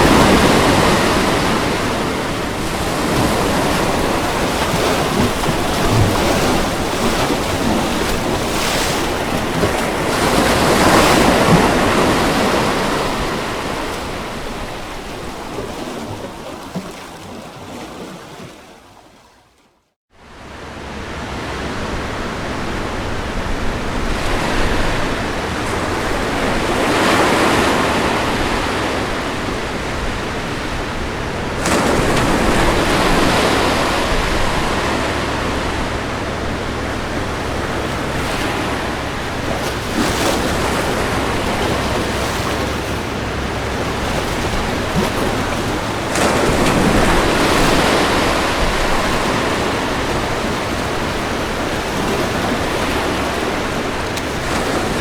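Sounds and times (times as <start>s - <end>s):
ocean waves breaking: 0.0s - 19.6s, 20.2s - 55.0s.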